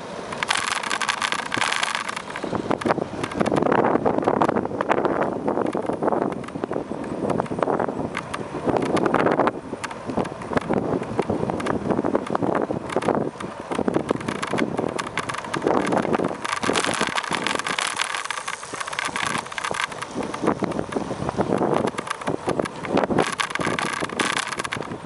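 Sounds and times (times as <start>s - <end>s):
bicycle knocks and rattles: 0.0s - 25.0s
wind rushing over microphone: 0.0s - 25.0s.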